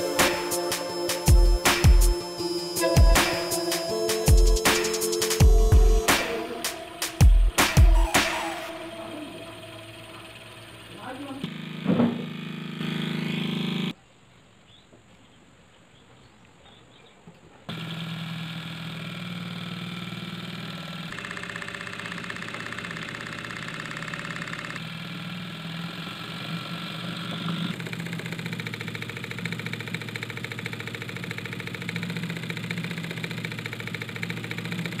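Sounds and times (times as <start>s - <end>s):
electric motor humming and rattling: 0.0s - 13.9s, 17.7s - 35.0s.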